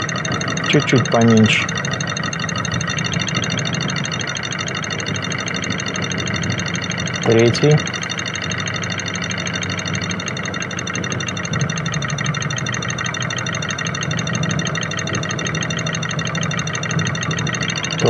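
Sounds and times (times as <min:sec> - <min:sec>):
diesel engine idling clatter: 0:00.0 - 0:18.0
injector knock: 0:00.0 - 0:18.0.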